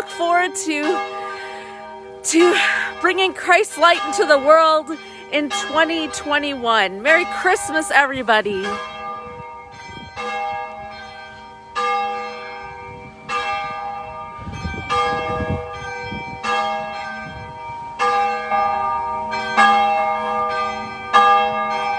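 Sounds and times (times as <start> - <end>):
church bell ringing: 0.0 - 21.9.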